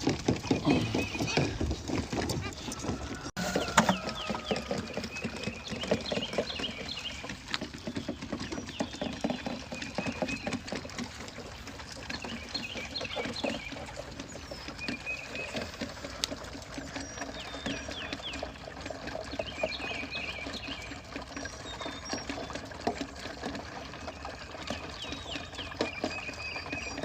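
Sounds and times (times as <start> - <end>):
goats sucking from bottles: 0.0 - 27.0.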